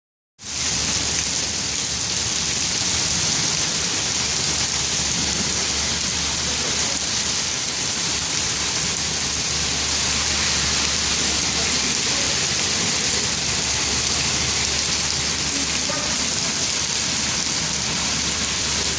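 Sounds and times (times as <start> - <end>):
steady rain falling: 0.4 - 18.9.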